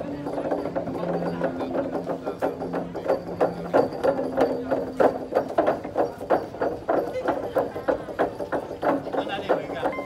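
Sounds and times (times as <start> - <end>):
wooden xylophone struck: 0.0 - 10.0.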